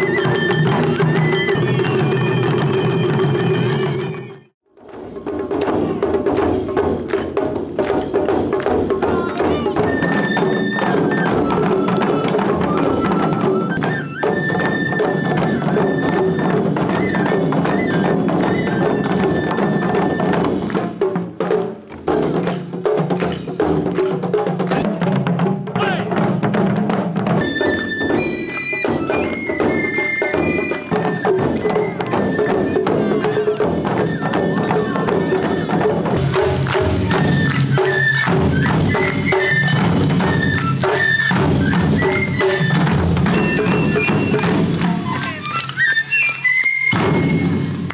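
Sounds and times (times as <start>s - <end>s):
taiko drums playing: 0.0s - 45.6s, 46.8s - 47.9s.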